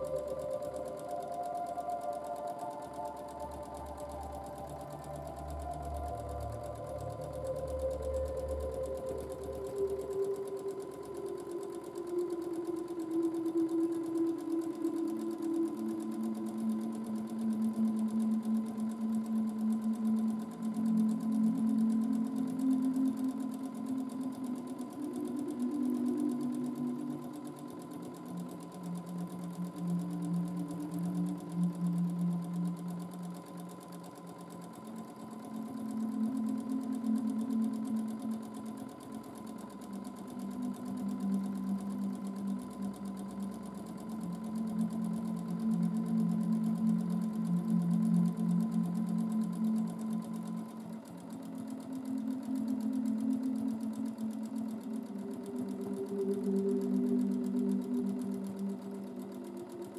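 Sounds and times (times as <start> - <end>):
sewing machine motor whirring: 0.0 - 59.9.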